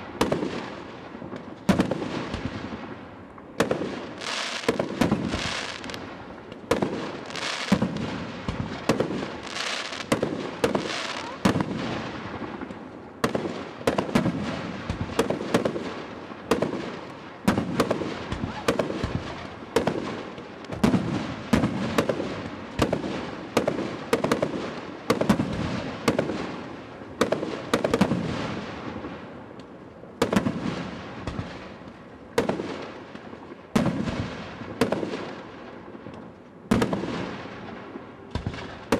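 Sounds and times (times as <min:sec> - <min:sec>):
fireworks bangs with rumbling echo: 0:00.0 - 0:38.9.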